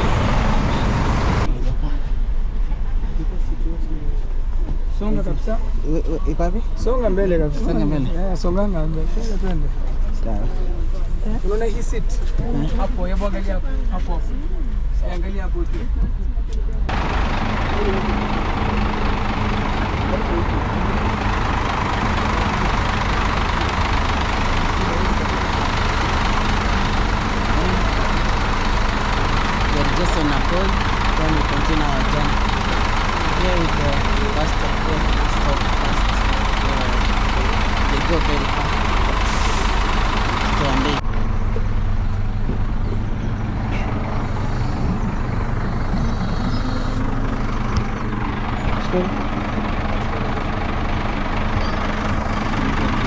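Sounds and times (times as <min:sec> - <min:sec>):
bus engine idling: 0:00.0 - 0:53.0.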